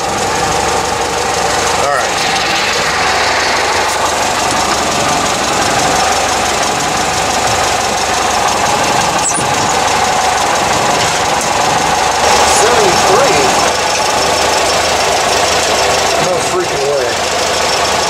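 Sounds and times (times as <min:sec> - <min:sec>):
petrol engine idling: 0:00.0 - 0:18.0.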